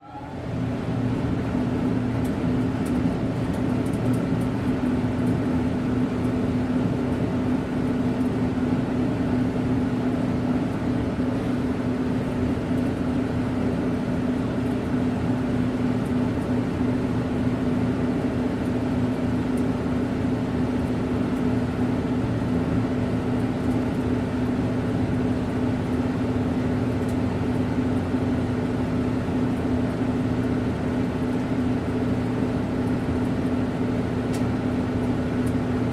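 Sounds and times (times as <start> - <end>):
conveyor machine motor hum: 0.0 - 35.9.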